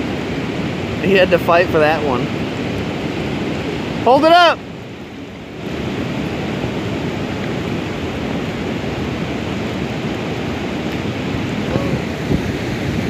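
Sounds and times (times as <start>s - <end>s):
river water rushing over rapids: 0.0s - 13.0s.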